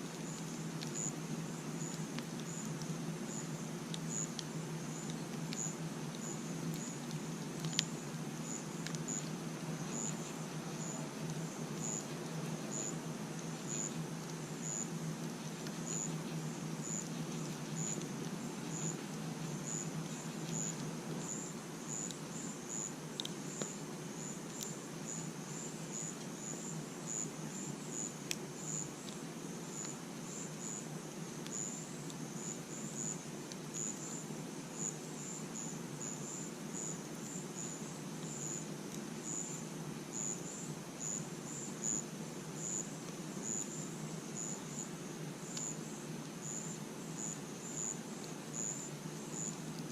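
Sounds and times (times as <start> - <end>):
crickets chirping: 0.0 - 49.9.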